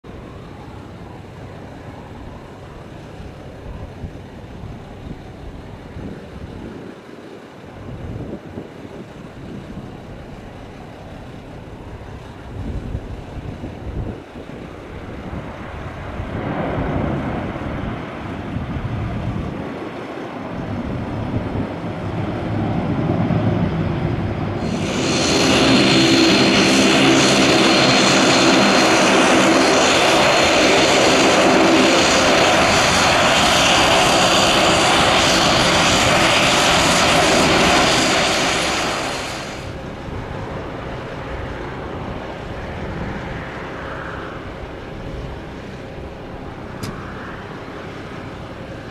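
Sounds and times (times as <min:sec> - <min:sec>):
distant turboprop aircraft: 0:00.0 - 0:48.9
turbine whine over propeller drone: 0:00.0 - 0:48.9.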